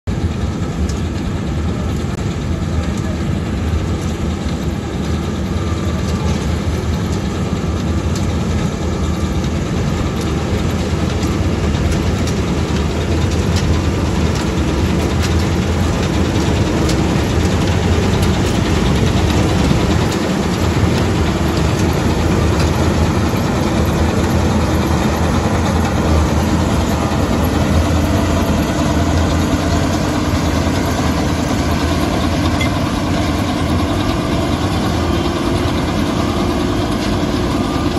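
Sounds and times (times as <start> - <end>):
combine harvester running: 0.1 - 37.9.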